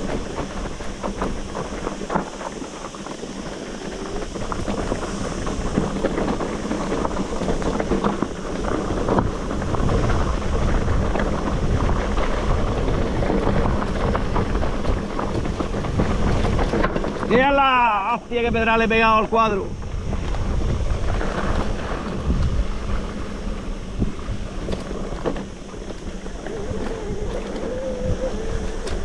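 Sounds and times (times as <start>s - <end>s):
bike rattling over stones: 0.0s - 29.0s
bike tyres crunching on gravel: 0.0s - 29.0s
wind rumbling on microphone: 0.0s - 29.0s.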